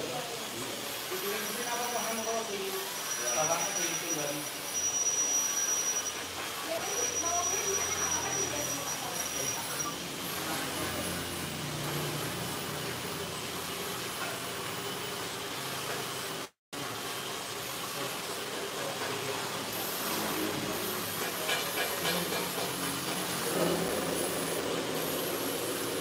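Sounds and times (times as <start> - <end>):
hiss: 0.0 - 26.0
steady mechanical hum: 0.0 - 26.0.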